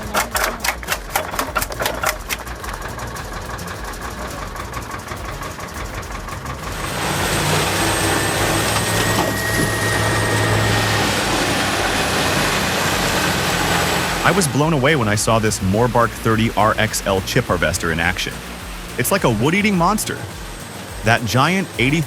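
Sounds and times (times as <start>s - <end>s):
heavy machine engine humming: 0.0s - 22.0s
wood chipper rattling: 0.0s - 22.0s.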